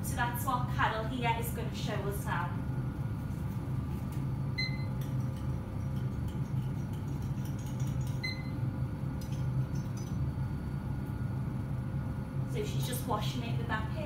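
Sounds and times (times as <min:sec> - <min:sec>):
lab machinery hum: 0:00.0 - 0:14.0.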